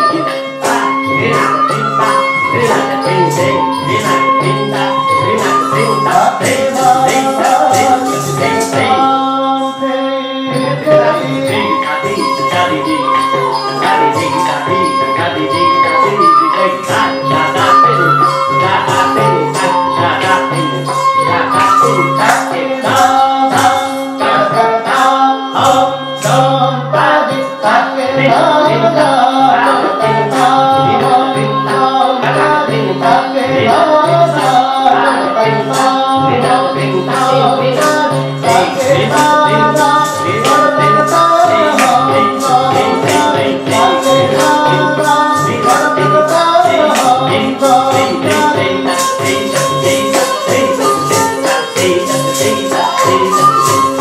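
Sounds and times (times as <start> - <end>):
jingling: 0.0 - 9.8, 10.5 - 54.0
rhythmic percussion strokes: 0.0 - 54.0.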